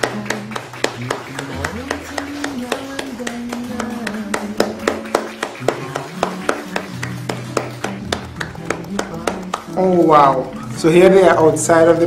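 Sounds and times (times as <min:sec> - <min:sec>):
hand clapping: 0:00.0 - 0:11.7
background music with low notes: 0:00.0 - 0:12.0.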